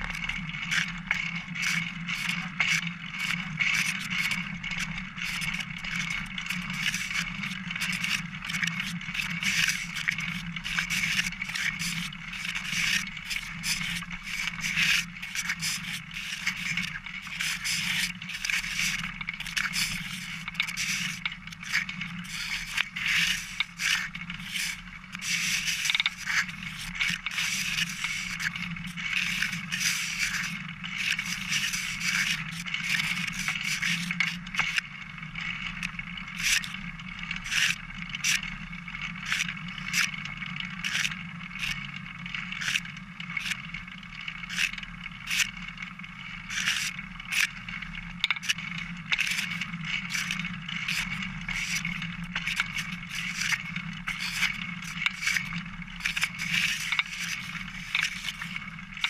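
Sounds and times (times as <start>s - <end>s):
bicycle tyre and frame noise: 0.0s - 59.0s
bike rattles and knocks: 0.0s - 59.0s.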